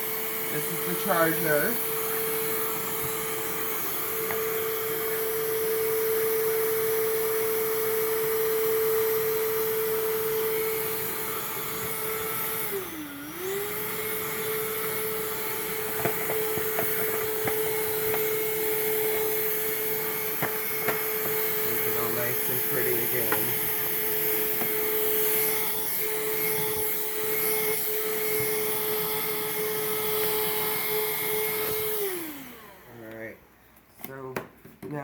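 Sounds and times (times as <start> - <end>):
vacuum cleaner motor whine: 0.0 - 33.4.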